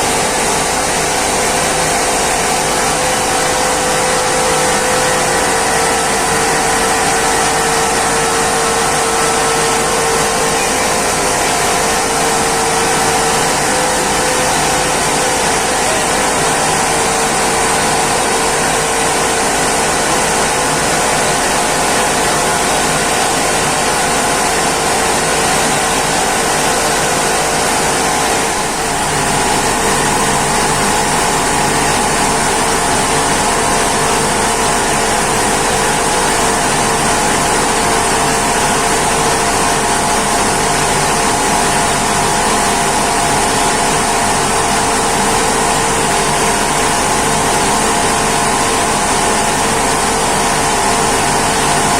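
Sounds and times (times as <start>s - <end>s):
mill machinery humming: 0.0s - 51.9s.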